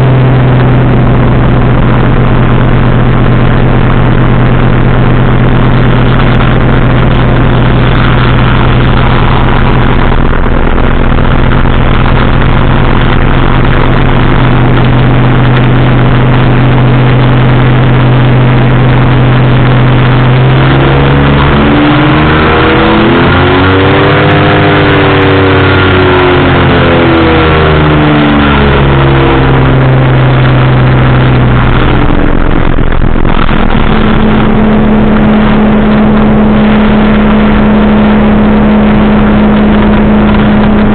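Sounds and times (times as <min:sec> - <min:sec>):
aircraft engine and propeller: 0:00.0 - 0:40.9.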